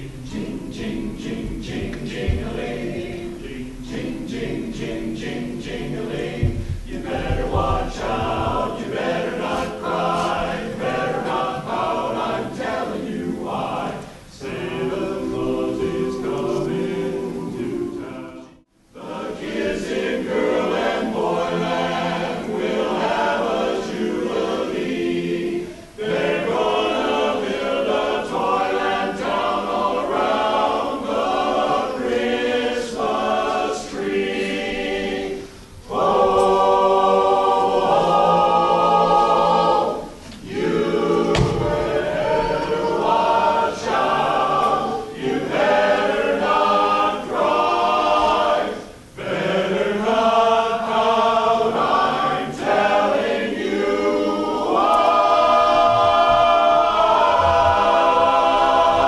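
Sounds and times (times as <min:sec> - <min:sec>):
men's chorus singing a cappella: 0:00.0 - 0:59.0.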